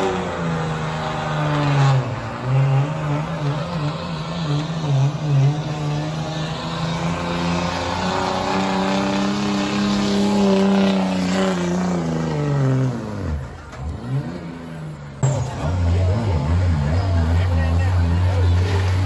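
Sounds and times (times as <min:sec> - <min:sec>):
tractor engine at high revs: 0:00.0 - 0:19.0.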